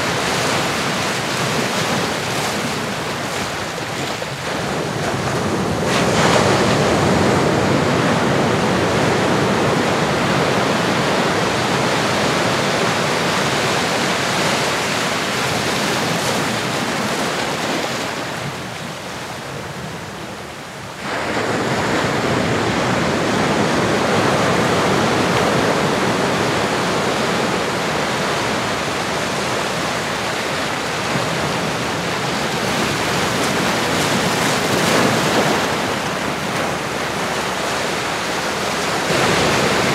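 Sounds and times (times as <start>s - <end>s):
ocean waves on shore: 0.0s - 39.9s.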